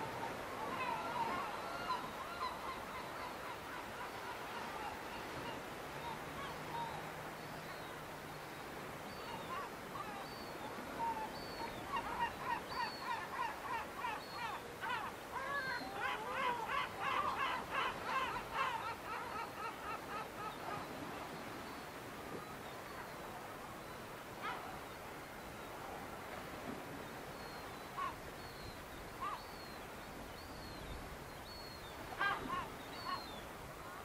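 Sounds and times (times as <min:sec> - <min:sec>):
gulls calling: 0:00.0 - 0:23.1, 0:27.2 - 0:31.0, 0:31.6 - 0:34.0
steady outdoor hiss: 0:00.0 - 0:34.0.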